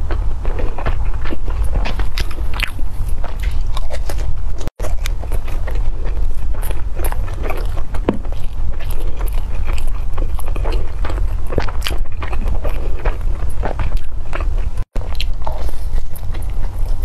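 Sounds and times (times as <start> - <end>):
person chewing: 0.0 - 17.0
steady low rumble: 0.0 - 17.0.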